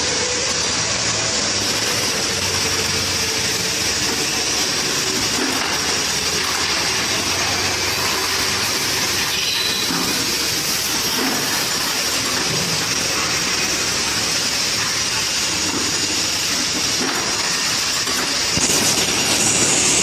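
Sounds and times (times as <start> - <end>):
wire machine running: 0.0 - 20.0.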